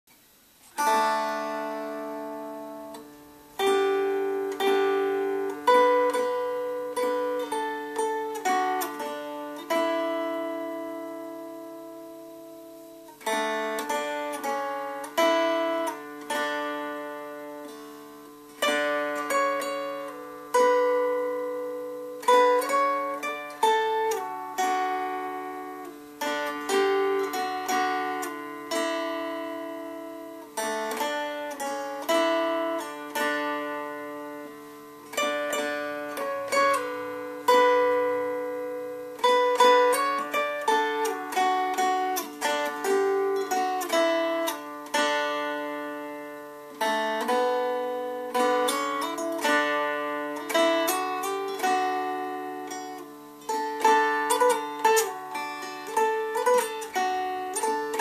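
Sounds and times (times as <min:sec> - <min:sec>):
lap dulcimer melody: 0:00.6 - 0:58.0.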